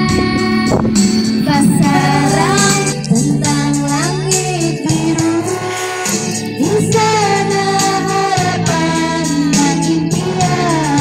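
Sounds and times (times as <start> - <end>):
backing music: 0.0 - 11.0
woman singing karaoke: 0.0 - 11.0.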